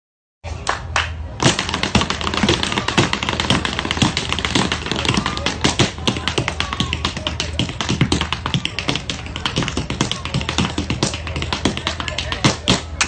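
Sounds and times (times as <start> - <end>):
tap shoes clicking on hard floor: 1.4 - 13.0.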